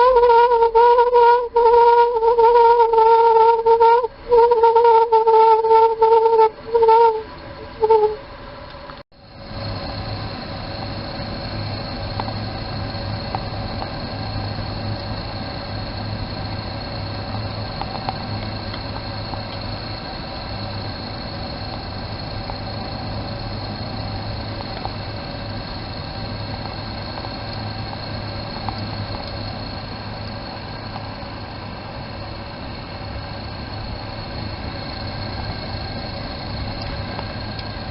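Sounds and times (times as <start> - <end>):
faint high whistling tones: 0.0 - 37.9
heater burner droning: 0.0 - 37.9.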